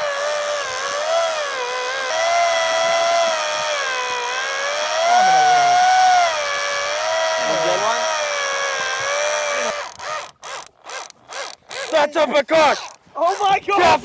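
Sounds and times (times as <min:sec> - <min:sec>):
fishing reel motor whining: 0:00.0 - 0:13.8.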